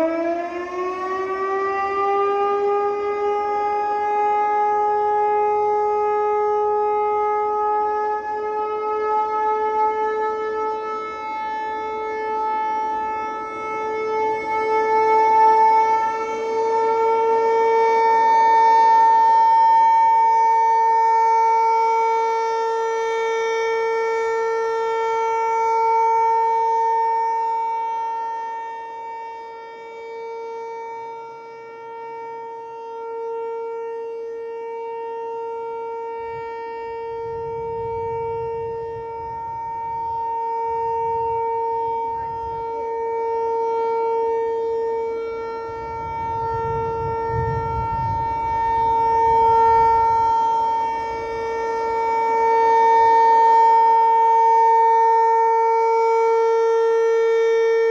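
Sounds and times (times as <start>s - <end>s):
warning siren steady tone: 0.0s - 57.9s.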